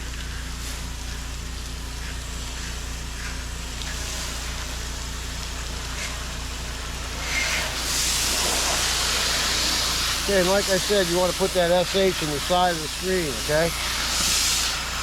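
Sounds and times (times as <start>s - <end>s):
pressure washer engine running: 0.0s - 15.0s
spray pattering on screening: 0.0s - 15.0s.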